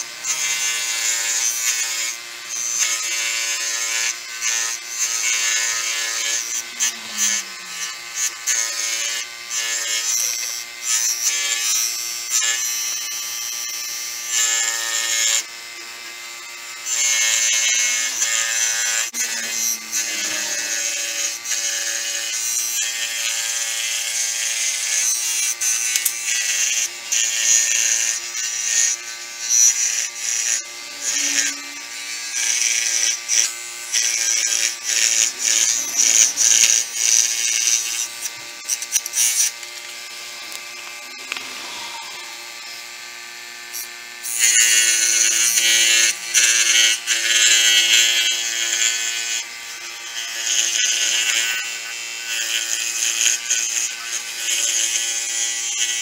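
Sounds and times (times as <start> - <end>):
electric power tool running: 0.0 - 56.0.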